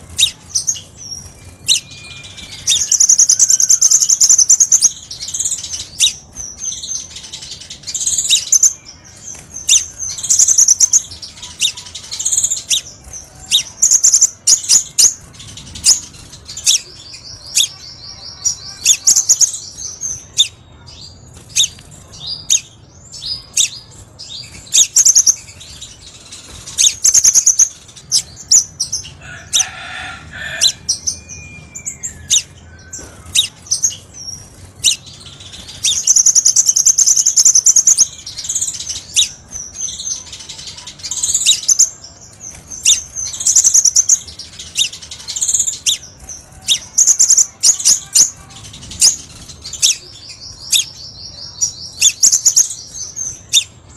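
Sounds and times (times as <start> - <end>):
bird trilling and chipping: 0.0 - 53.8.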